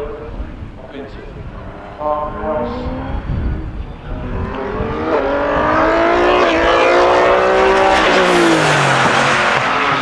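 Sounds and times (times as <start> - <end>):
racing car passing at full throttle: 1.3 - 10.0.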